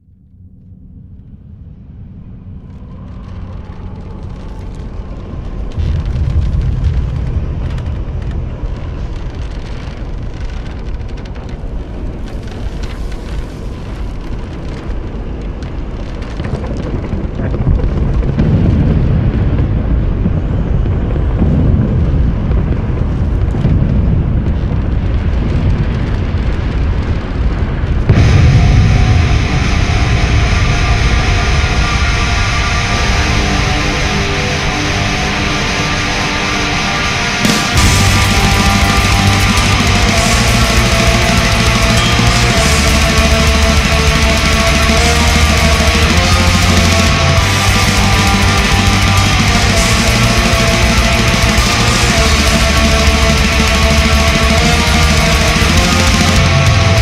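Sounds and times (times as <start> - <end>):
crackling: 0.0 - 57.0
deep rumble: 0.0 - 57.0.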